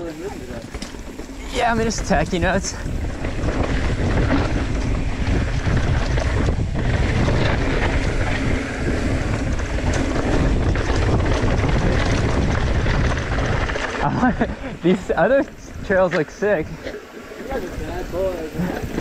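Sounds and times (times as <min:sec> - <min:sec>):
bike rattling over rough ground: 0:00.0 - 0:19.0
bike tyres rolling: 0:00.0 - 0:19.0
wind rushing over microphone: 0:00.0 - 0:19.0.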